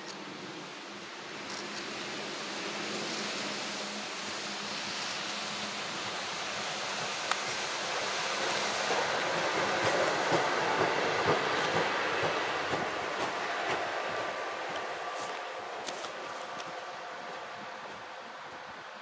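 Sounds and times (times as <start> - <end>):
diesel locomotive passing: 0.1 - 19.0
wheels clicking on track: 1.3 - 19.0.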